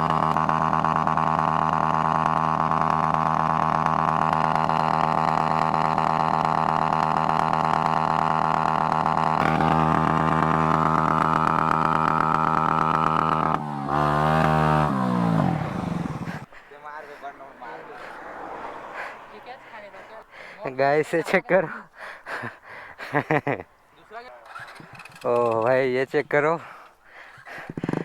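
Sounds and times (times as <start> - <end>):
motorcycle engine running: 0.0 - 20.6, 24.4 - 25.7, 27.3 - 28.0.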